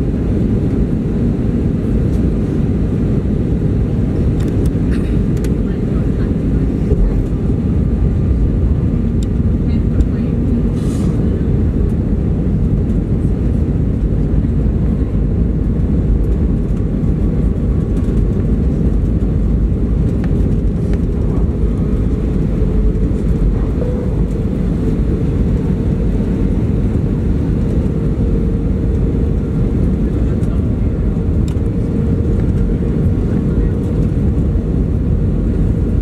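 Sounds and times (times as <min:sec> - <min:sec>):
aircraft engine and airflow noise: 0:00.0 - 0:36.0.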